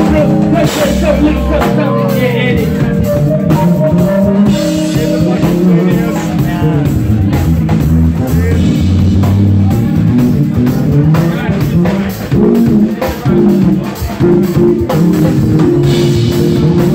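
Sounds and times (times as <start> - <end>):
live funk band playing: 0.0 - 16.9.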